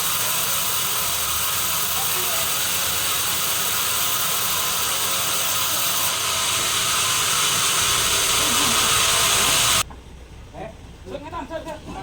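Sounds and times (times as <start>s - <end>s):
saw cutting through log: 0.0s - 9.8s.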